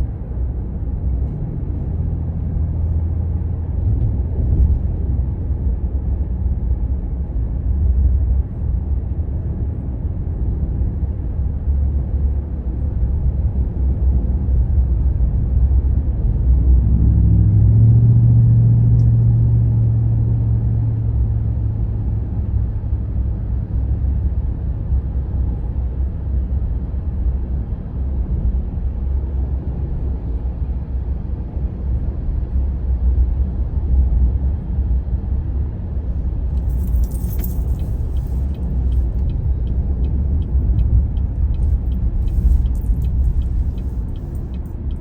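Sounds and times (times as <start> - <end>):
deep engine drone: 0.0 - 45.0
vehicle rumble in traffic: 0.0 - 45.0.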